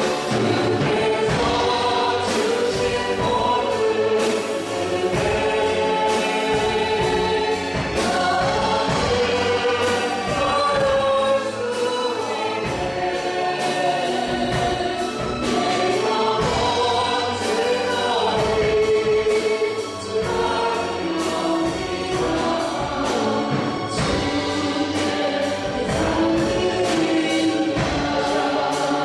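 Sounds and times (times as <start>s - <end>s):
band accompanying: 0.0s - 29.0s
drum hits: 0.0s - 29.0s
group singing a worship song: 0.0s - 29.0s.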